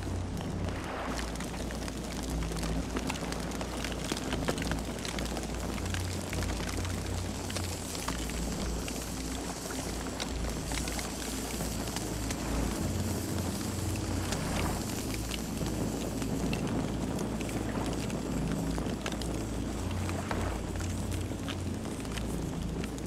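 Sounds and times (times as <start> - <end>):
low rumble of flames: 0.0 - 23.0
wood crackling and popping: 0.0 - 23.0.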